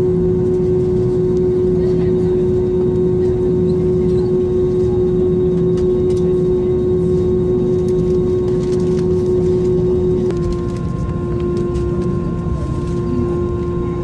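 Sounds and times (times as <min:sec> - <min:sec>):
constant whine: 0:00.0 - 0:14.0
jet engine cabin rumble: 0:00.0 - 0:14.0.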